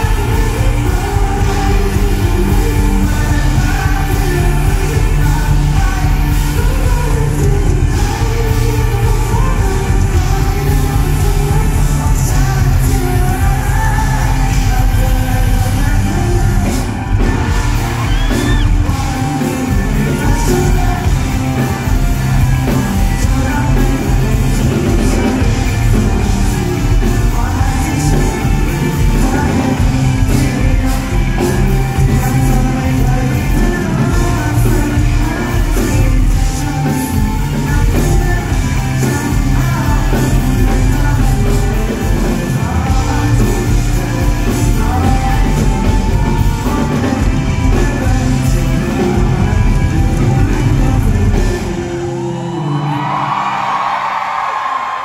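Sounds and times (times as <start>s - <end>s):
drum kit: 0.0s - 55.0s
electric guitar: 0.0s - 55.0s
keyboard: 0.0s - 55.0s
person singing lead vocals: 0.0s - 55.0s.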